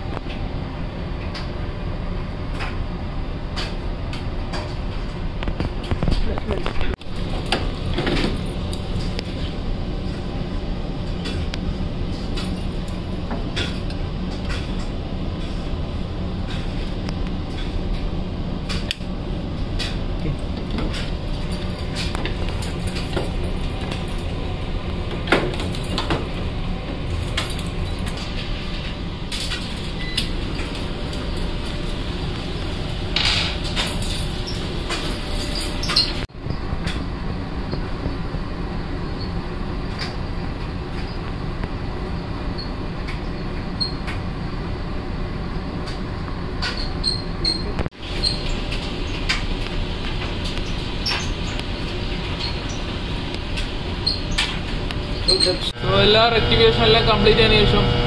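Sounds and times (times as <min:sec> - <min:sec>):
low machinery hum: 0:00.0 - 0:58.0.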